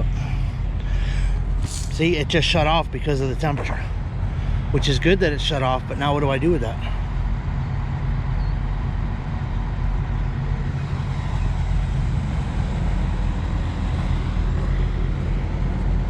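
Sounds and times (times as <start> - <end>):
diesel engines idling: 0.0 - 16.0.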